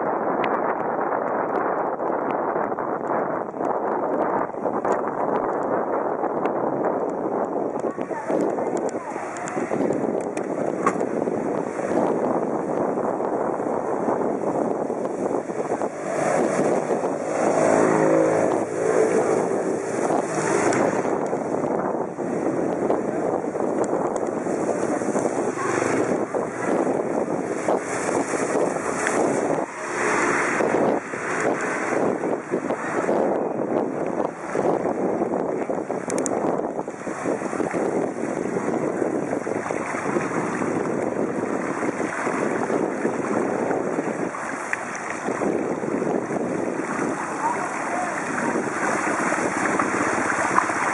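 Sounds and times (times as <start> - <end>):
wind buffeting microphone: 0.0 - 50.9
tyres rolling through water: 3.1 - 50.9.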